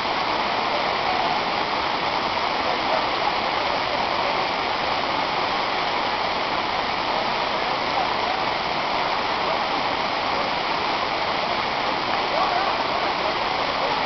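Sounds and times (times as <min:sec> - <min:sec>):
water rushing over rock: 0:00.0 - 0:14.0.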